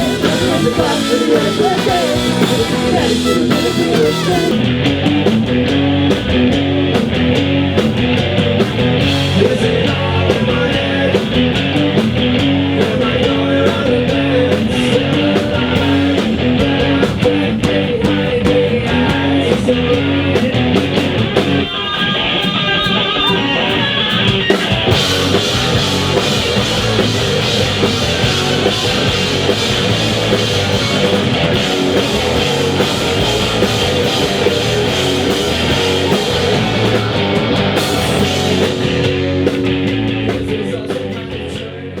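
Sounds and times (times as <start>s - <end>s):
instrumental rock music: 0.0s - 42.0s.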